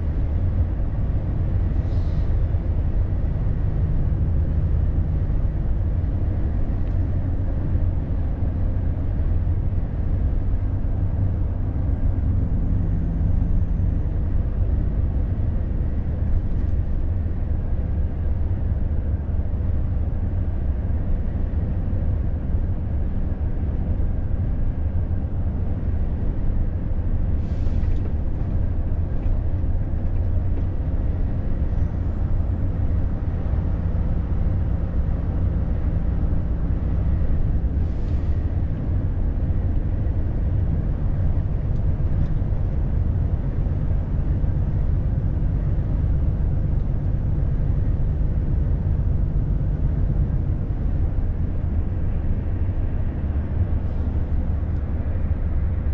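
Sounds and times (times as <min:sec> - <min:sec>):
truck engine and road drone: 0:00.0 - 0:55.9.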